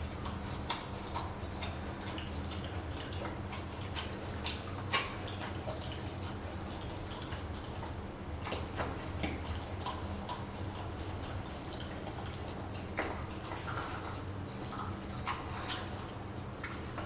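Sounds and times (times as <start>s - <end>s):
puppy licking and chewing: 0.0s - 17.0s.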